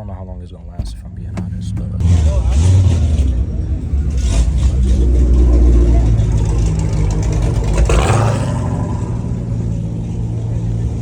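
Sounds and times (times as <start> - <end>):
car engines with deep exhaust rumble: 0.0 - 11.0.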